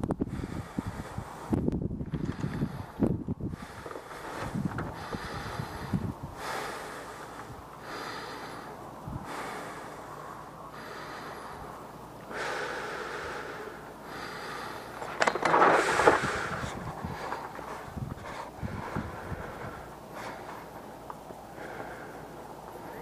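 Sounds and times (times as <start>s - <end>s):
heavy breathing: 0.2s - 1.6s, 2.2s - 23.0s.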